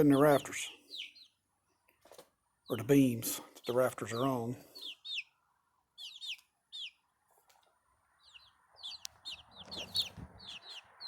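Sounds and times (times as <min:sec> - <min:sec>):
young chickens peeping: 0:00.0 - 0:11.0.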